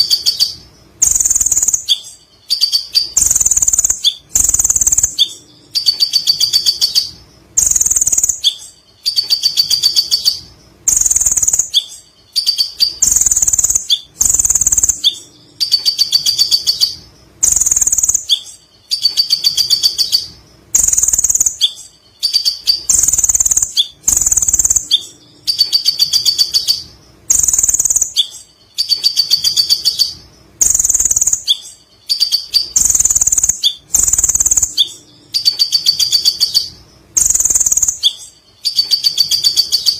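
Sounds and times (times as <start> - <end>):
bird stuttering trill: 0.0 - 39.9.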